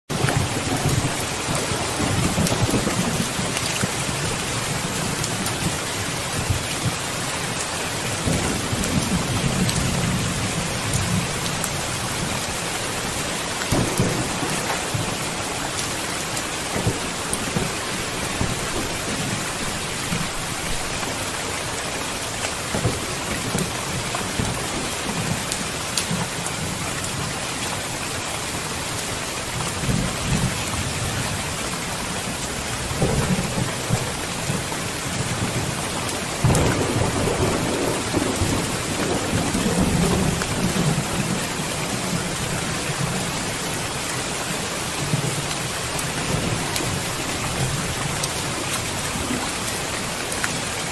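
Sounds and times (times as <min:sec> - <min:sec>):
thunder rumbling: 0:00.1 - 0:27.3, 0:29.8 - 0:50.9
heavy rain: 0:00.1 - 0:50.9.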